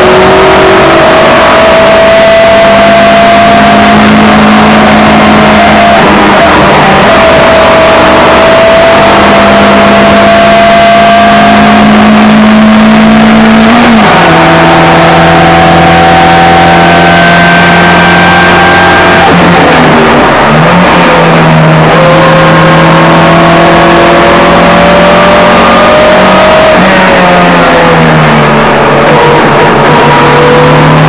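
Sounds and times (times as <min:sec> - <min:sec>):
racing car engine: 0:00.0 - 0:31.0.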